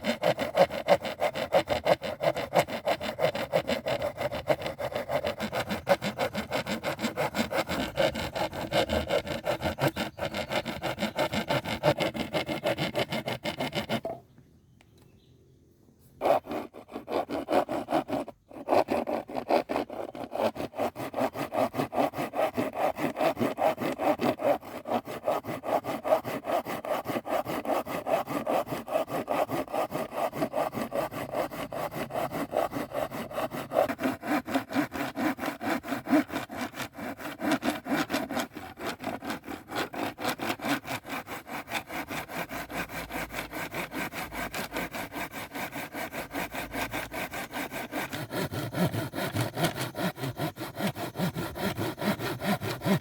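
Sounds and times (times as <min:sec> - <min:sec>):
hand saw cutting wood: 0:00.0 - 0:14.2, 0:16.1 - 0:53.0.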